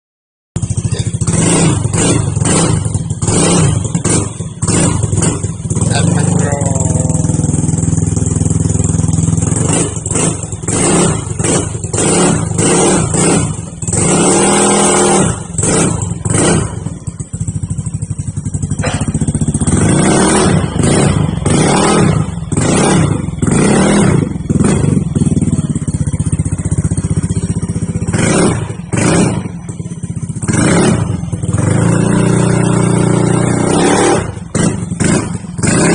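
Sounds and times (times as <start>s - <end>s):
scooter engine revving: 0.6s - 35.9s.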